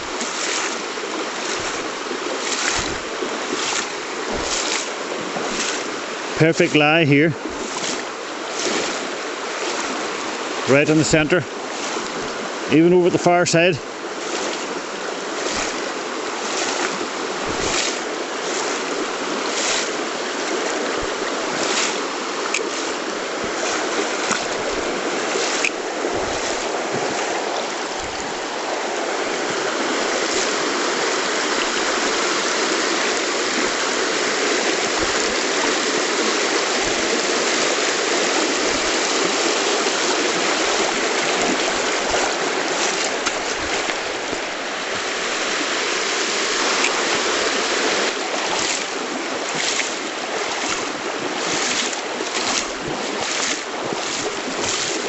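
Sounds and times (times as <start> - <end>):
river flowing: 0.0 - 55.0.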